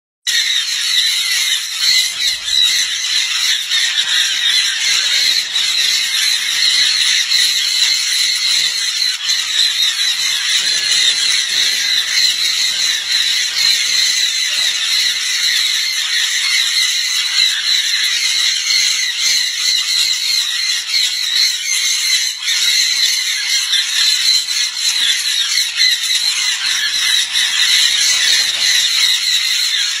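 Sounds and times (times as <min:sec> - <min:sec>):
conures screeching: 0:00.3 - 0:30.0.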